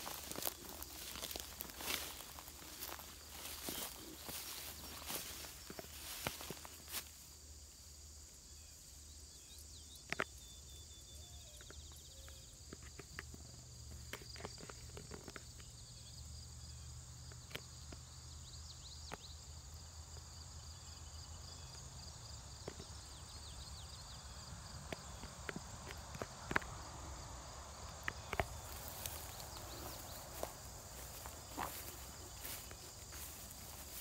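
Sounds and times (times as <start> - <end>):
insect trill: 0.0 - 34.0
insects chirring: 0.0 - 34.0.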